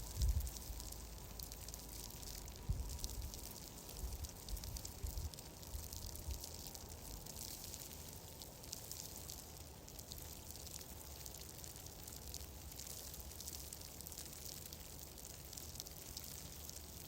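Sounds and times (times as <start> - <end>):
small crackles: 0.0 - 17.0
soft hiss: 0.0 - 17.0.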